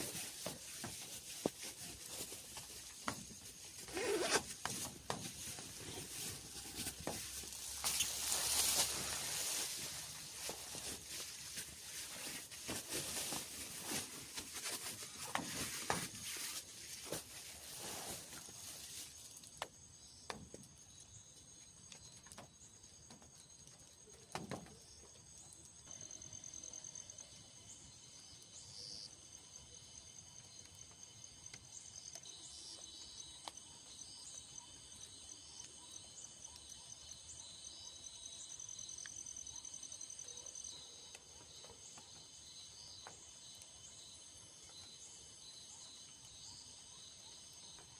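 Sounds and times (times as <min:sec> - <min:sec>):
insects chirping and trilling: 0:00.0 - 0:47.9.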